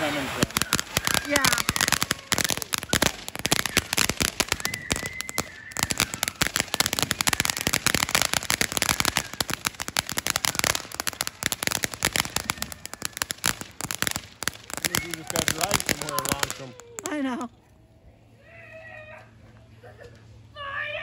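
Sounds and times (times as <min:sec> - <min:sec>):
firework crackling and popping: 0:00.0 - 0:17.5.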